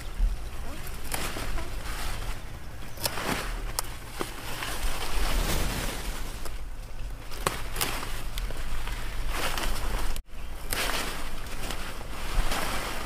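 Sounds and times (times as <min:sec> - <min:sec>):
leaves and vines rustling: 0:00.0 - 0:13.0
low wind rumble: 0:00.0 - 0:13.0.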